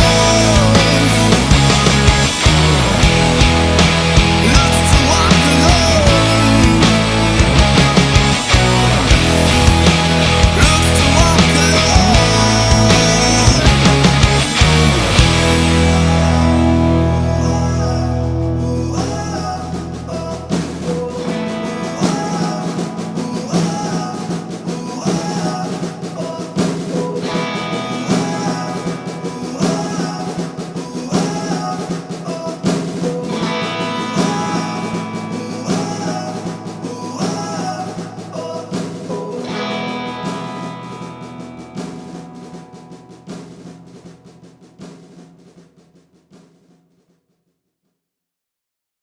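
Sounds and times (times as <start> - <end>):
rock music with drums and guitar: 0.0 - 45.6.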